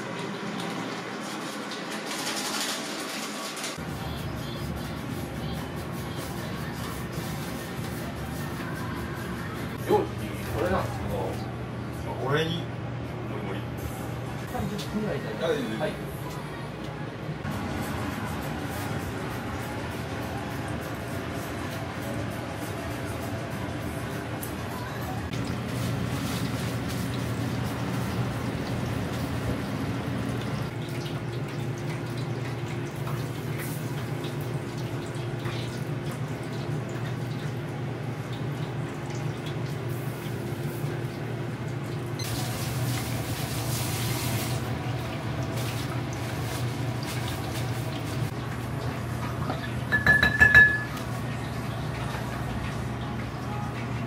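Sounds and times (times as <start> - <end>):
oil sizzling and bubbling: 0.0 - 11.8, 17.4 - 54.0.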